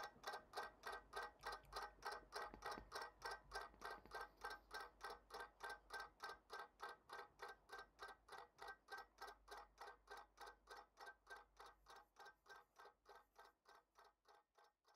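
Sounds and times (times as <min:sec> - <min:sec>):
clock ticking: 0:00.0 - 0:14.9.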